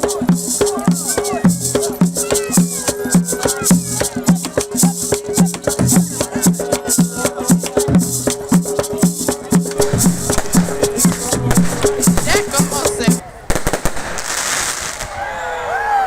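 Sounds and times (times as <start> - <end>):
loud music with steady beat: 0.0 - 13.2.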